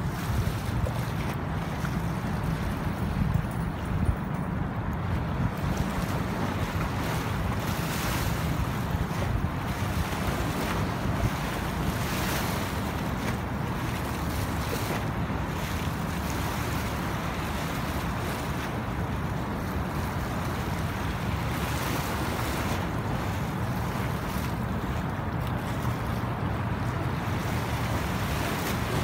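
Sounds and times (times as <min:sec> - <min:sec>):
river water rushing: 0:00.0 - 0:29.0
wind buffeting microphone: 0:00.0 - 0:29.0.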